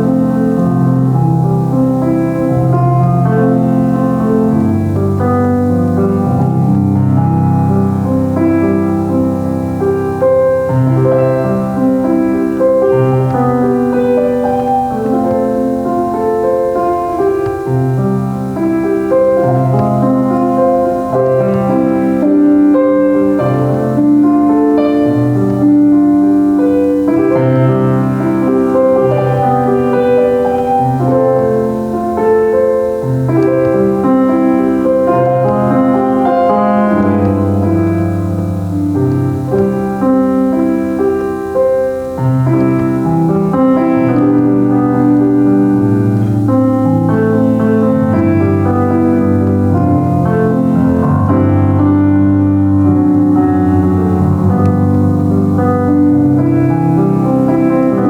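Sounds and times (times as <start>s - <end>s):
slow solo piano piece: 0.0s - 58.0s.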